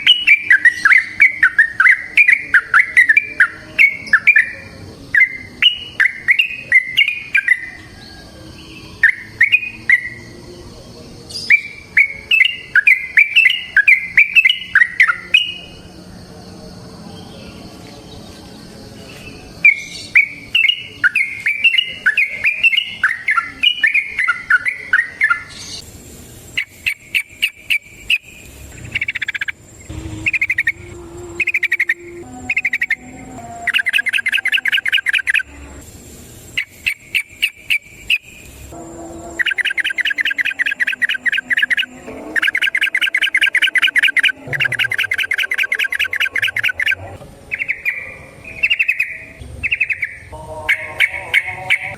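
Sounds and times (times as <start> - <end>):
bird chattering phrase: 0.0 - 8.0, 11.4 - 15.7, 19.7 - 25.8, 26.5 - 35.5, 36.5 - 38.4, 39.3 - 51.9
bird singing: 0.0 - 51.9
rolling bird song trills: 0.0 - 51.9.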